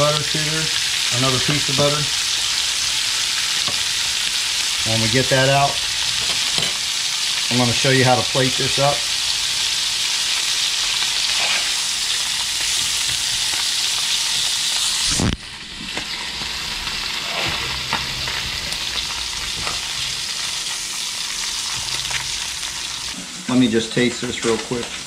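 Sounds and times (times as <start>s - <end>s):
fish sizzling in a skillet: 0.0s - 23.5s.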